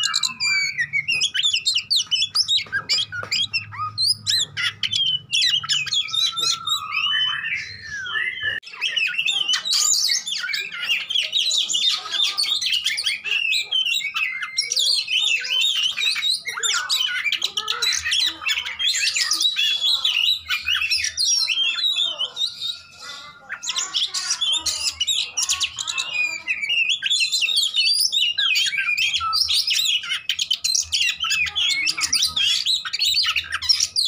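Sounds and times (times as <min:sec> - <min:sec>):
songbird chirps and trills: 0:00.0 - 0:34.0.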